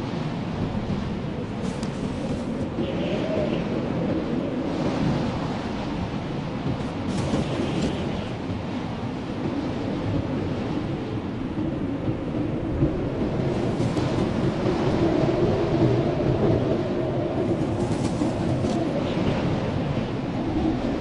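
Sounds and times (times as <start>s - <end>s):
blizzard wind rushing: 0.0s - 21.0s
faint howling wind tone: 0.0s - 21.0s.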